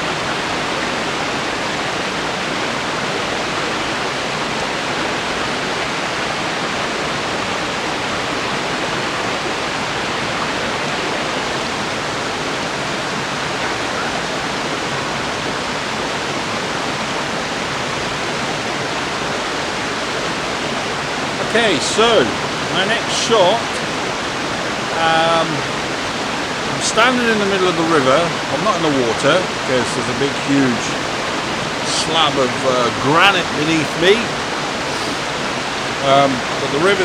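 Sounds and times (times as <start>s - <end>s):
river water rushing over rocks: 0.0s - 37.0s.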